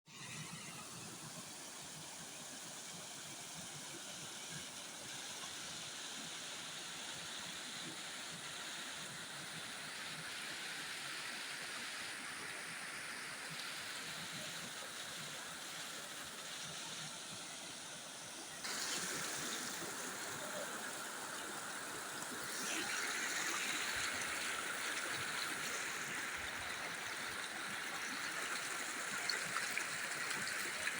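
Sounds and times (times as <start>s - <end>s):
floodwater rushing in stream: 0.5s - 30.9s.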